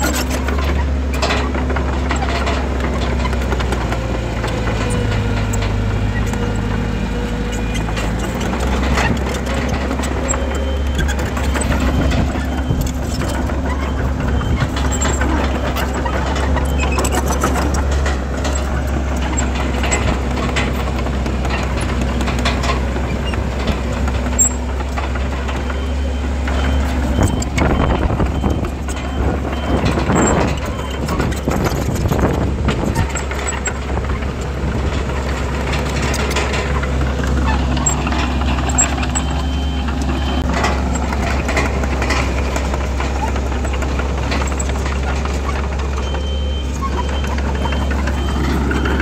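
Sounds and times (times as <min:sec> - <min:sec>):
bulldozer diesel engine running: 0:00.0 - 0:49.0.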